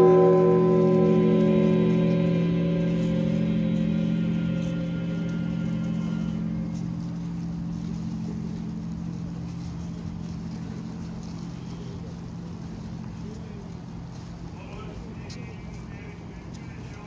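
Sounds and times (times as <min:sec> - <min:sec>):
large church bell hum: 0:00.0 - 0:15.1.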